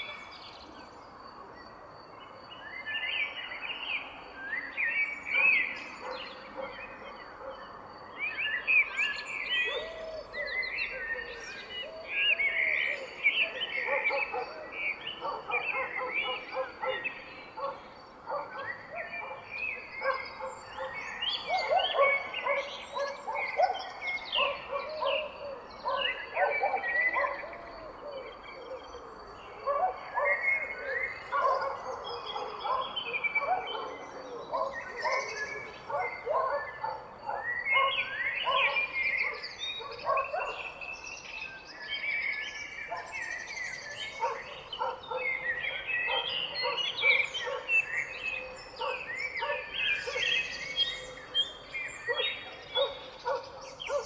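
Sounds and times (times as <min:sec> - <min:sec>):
chorus of songbirds: 0:00.0 - 0:54.0.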